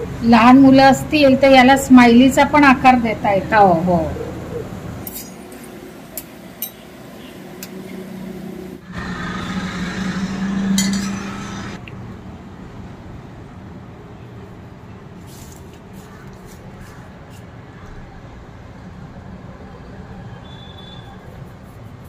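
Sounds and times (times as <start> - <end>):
road traffic drone: 0.0 - 22.0.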